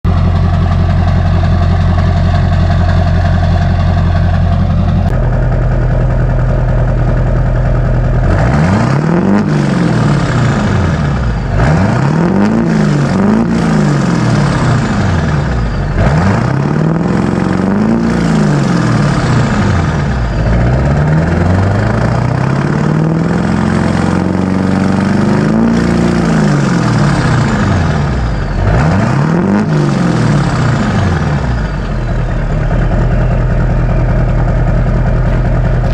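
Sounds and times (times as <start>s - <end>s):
diesel engine idling and revving: 0.0s - 35.9s.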